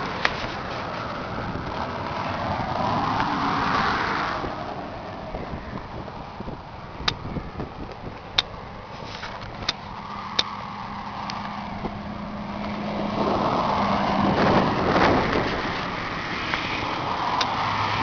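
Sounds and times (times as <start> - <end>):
rush of noise: 0.0 - 18.0.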